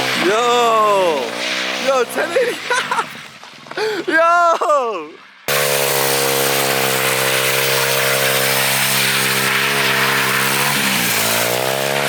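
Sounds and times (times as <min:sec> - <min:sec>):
pit bike engine at high revs: 0:00.0 - 0:03.2, 0:05.5 - 0:12.0.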